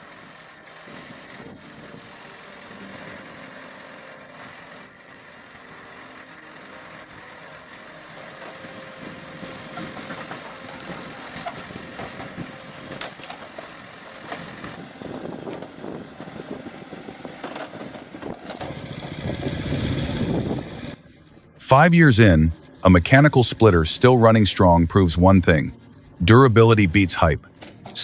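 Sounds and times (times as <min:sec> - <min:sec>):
log splitter engine running: 0:00.0 - 0:28.0.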